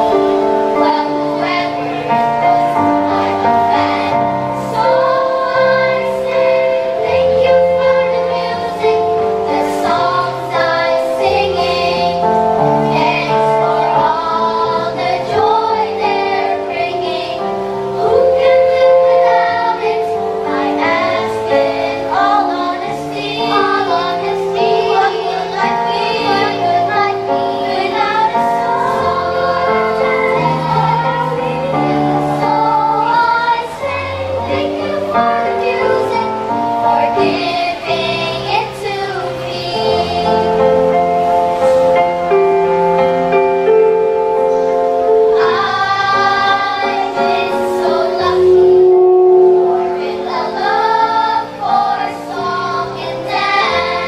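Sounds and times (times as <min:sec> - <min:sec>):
children's choir singing in harmony: 0:00.0 - 0:54.0.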